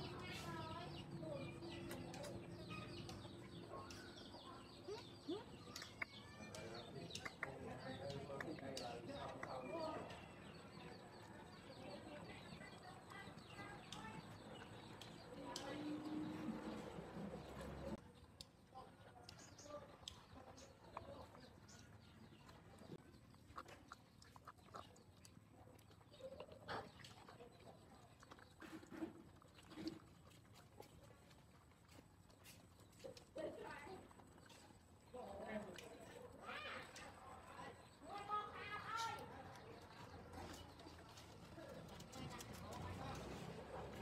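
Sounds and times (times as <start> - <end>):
puppies chewing and lapping: 0.0 - 44.0.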